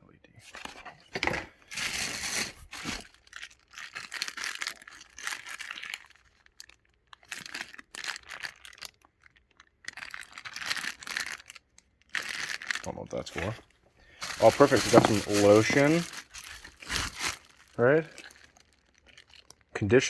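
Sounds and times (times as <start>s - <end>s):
packaging crinkling and tearing: 1.6s - 19.8s.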